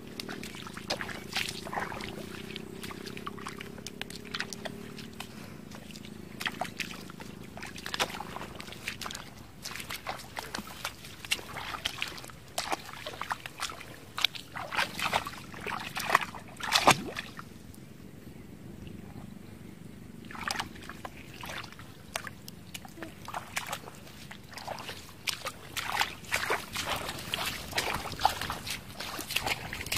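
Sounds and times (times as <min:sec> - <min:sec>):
splashing in muddy water: 0:00.0 - 0:17.6, 0:20.1 - 0:29.9.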